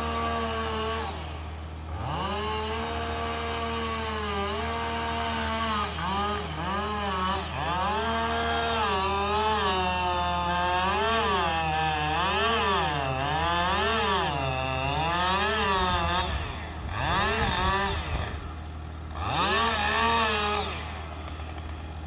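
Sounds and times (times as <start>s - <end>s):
chainsaw at full throttle: 0.0s - 22.0s.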